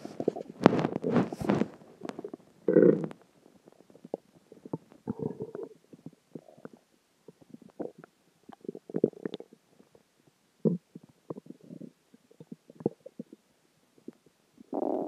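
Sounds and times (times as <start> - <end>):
stomach growling and gurgling: 0.0 - 15.0.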